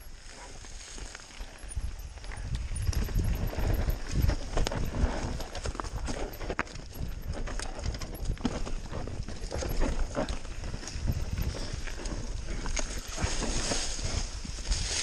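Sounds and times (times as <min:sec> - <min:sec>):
bike rattling over rough trail: 0:00.0 - 0:15.0
wind rumble on microphone: 0:00.0 - 0:15.0.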